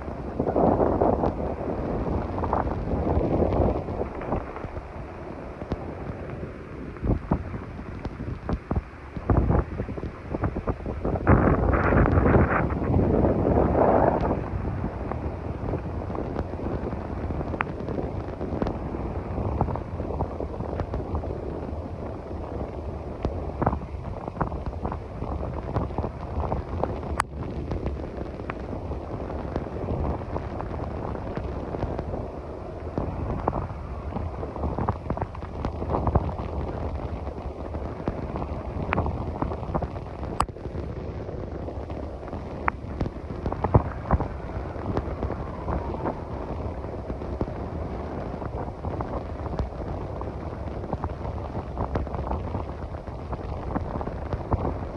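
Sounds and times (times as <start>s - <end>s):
heavy rain: 0.0s - 54.9s
raindrops popping near microphone: 0.0s - 54.9s
wind buffeting microphone: 0.0s - 54.9s.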